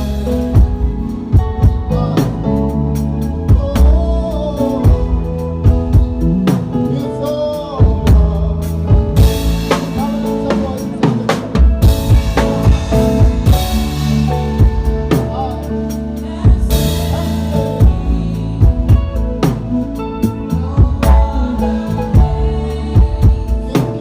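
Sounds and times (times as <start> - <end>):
live band playing instrumental: 0.0 - 24.0.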